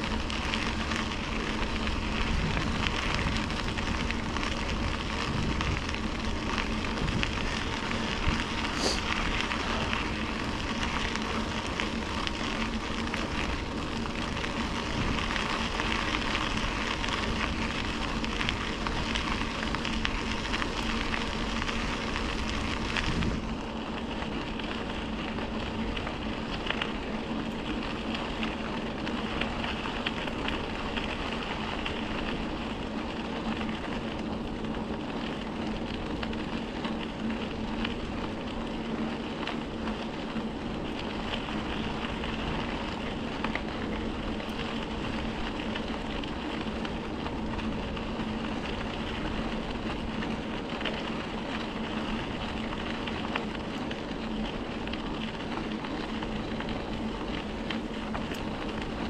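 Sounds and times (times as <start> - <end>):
bicycle tyres rolling: 0.0 - 59.0
steady hum: 0.0 - 59.0.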